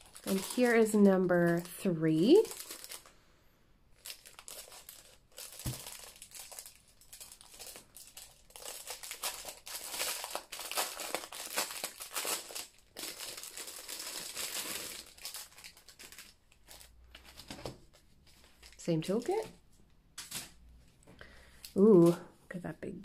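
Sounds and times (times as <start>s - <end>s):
plastic bag crinkling: 0.0s - 3.1s, 4.0s - 19.6s.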